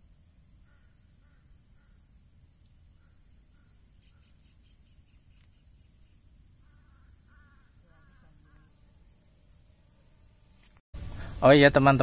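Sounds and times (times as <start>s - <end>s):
faint distant bird calls: 0.3s - 11.4s.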